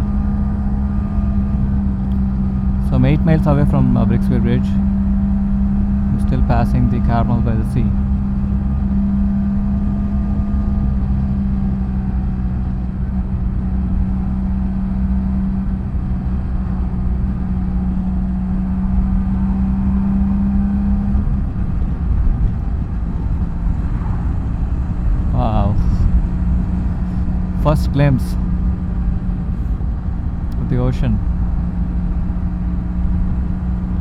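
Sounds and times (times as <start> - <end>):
motorcycle engine cruising: 0.0 - 34.0
road and wind noise: 0.0 - 34.0.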